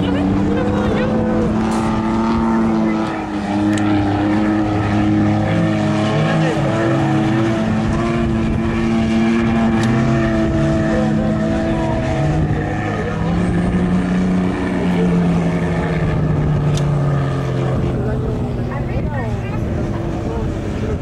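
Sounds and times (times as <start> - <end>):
rally car engine running: 0.0 - 21.0.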